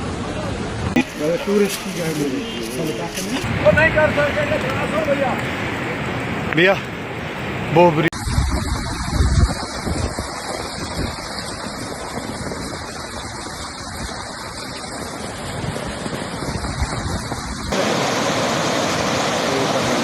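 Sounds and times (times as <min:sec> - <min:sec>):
rushing floodwater: 0:00.0 - 0:20.0
wind buffeting microphone: 0:01.2 - 0:17.8.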